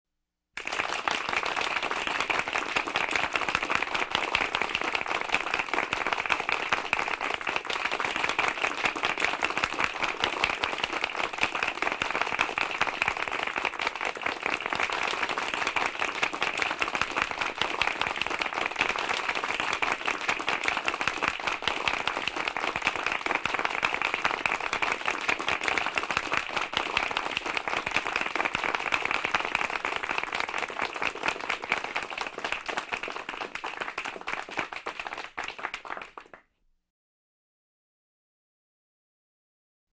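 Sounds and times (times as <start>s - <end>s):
large crowd applauding: 0.6s - 36.4s.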